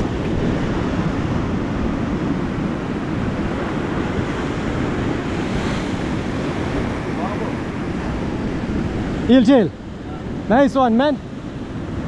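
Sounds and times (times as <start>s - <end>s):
surf washing against rocks: 0.0s - 12.0s
wind on microphone: 0.0s - 12.0s.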